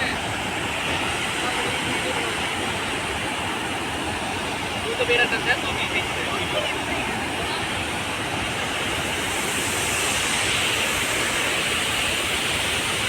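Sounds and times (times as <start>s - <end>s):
waterfall roaring into river: 0.0s - 13.0s.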